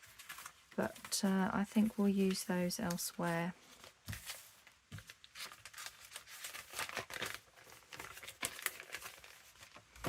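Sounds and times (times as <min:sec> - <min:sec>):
paper rustling and shuffling: 0:00.0 - 0:10.0.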